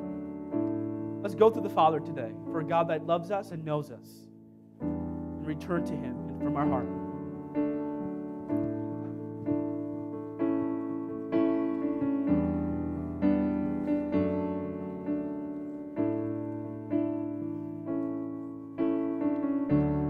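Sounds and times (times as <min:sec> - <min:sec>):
electric piano chords: 0:00.0 - 0:20.0.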